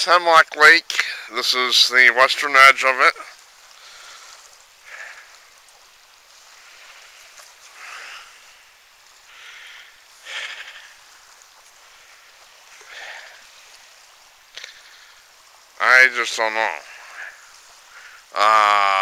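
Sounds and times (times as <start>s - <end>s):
soft hissy walking noises: 0.0s - 18.4s.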